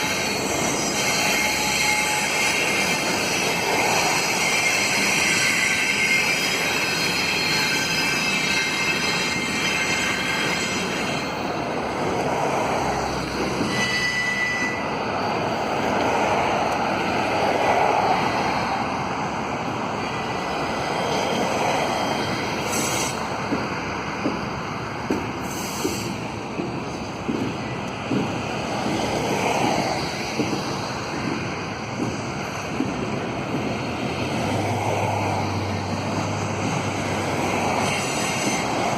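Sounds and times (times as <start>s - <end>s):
train rolling noise: 0.0s - 38.9s
train wheels squealing on rails: 0.0s - 38.9s.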